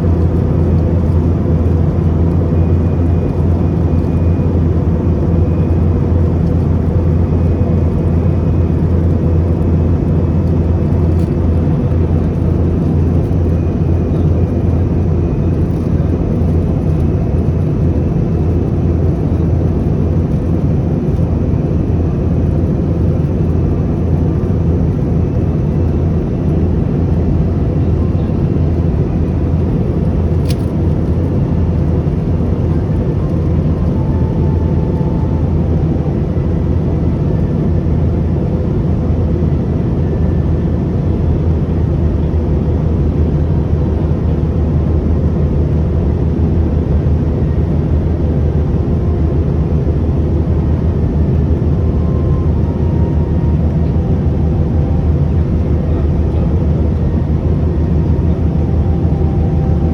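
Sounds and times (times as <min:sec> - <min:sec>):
airliner cabin drone: 0:00.0 - 0:59.9.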